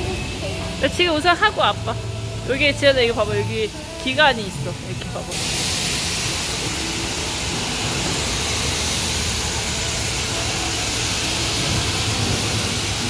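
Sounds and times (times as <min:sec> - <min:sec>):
high-pressure water spray hissing: 0:00.0 - 0:13.0.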